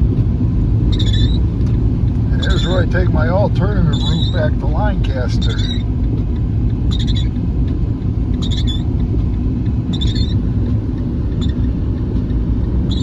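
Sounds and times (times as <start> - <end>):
engine and tyre rumble: 0.0 - 13.0
windshield wipers squeaking: 0.9 - 7.5, 8.2 - 13.0.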